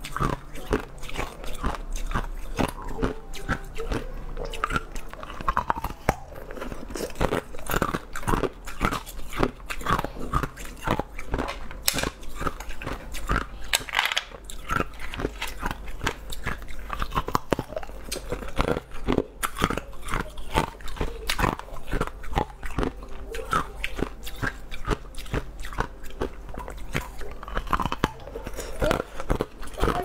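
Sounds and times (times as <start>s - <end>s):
crunchy chewing: 0.0s - 30.0s
wet mouth clicks: 0.0s - 30.0s.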